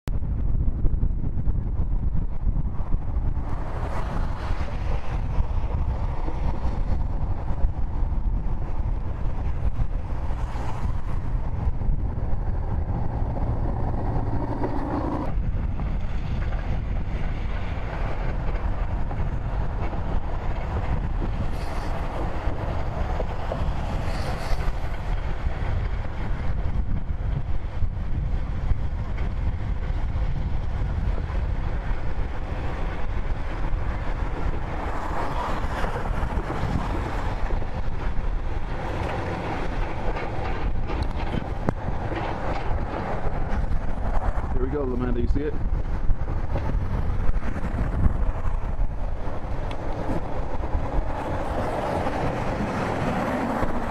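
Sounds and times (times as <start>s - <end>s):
wind rumbling on microphone: 0.0s - 53.9s.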